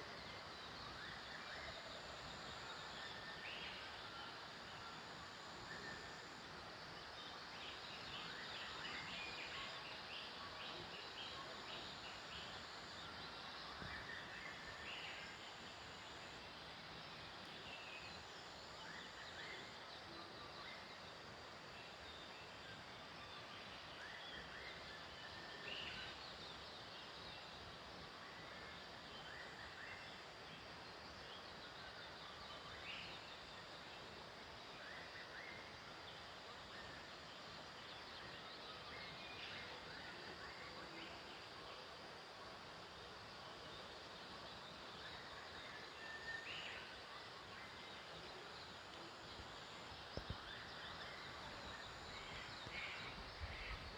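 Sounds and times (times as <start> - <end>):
outdoor background hiss: 0.0 - 53.9.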